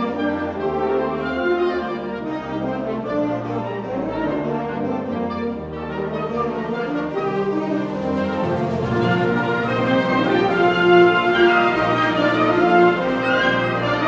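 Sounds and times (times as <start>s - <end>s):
wind band playing: 0.0s - 14.0s.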